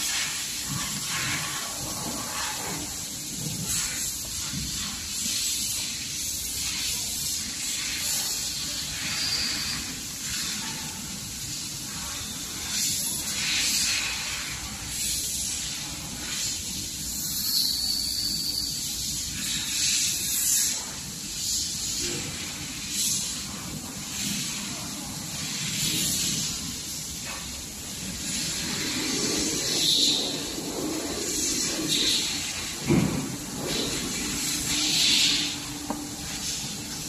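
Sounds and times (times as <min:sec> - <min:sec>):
low workshop hum: 0:00.0 - 0:37.0.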